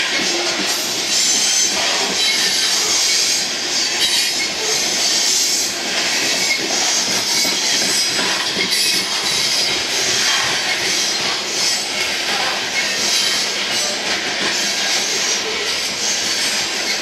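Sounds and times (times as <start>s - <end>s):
steel wheels squealing: 0.0s - 17.0s
wheels clacking over rail joints: 1.6s - 17.0s.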